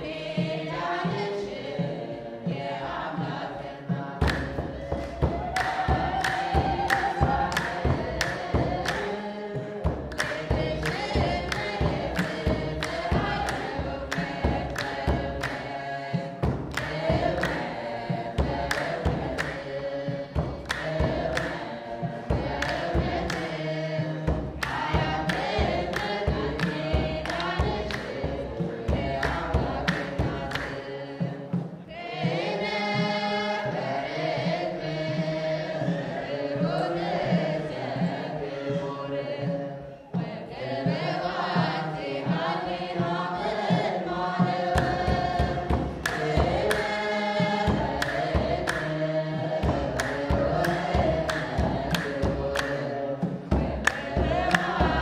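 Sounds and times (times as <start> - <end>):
choir singing a hymn: 0.0 - 55.0
percussion beat: 0.0 - 55.0.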